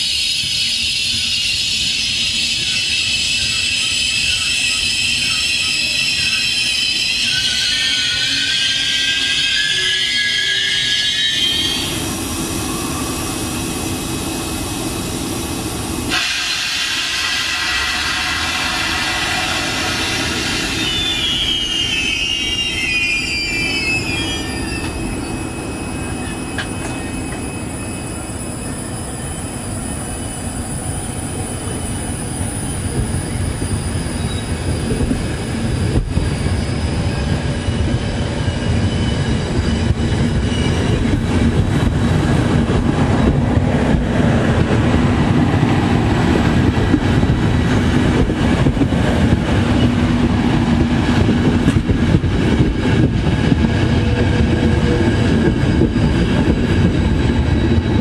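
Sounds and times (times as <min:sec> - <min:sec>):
train wheels squealing: 0:00.0 - 0:13.5, 0:16.1 - 0:42.0, 0:46.7 - 0:58.0
train coaches rumbling on rails: 0:00.0 - 0:58.0.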